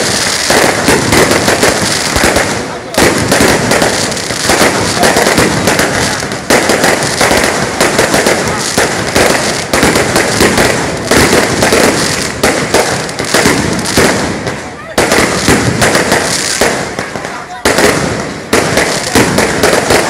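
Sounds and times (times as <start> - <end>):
firecrackers crackling: 0.0 - 20.0.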